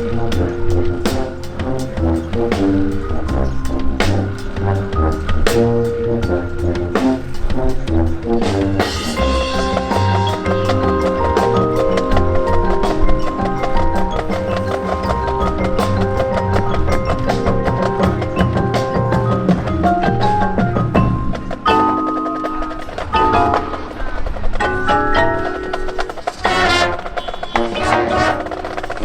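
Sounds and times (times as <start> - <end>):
brass and wind chords: 0.0 - 21.6, 26.1 - 29.0
fast percussion hits: 0.0 - 29.0.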